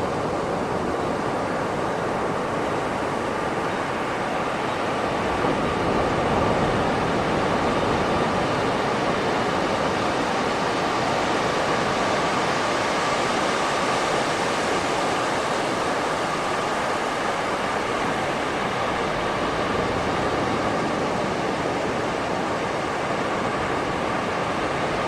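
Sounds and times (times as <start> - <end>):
ocean surf on beach: 0.0 - 25.0.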